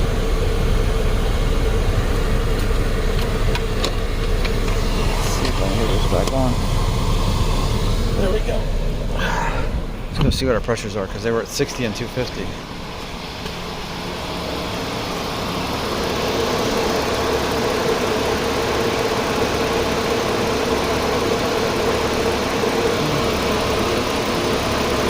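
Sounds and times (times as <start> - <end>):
air conditioning running: 0.0 - 25.0
car engine idling: 0.0 - 25.0.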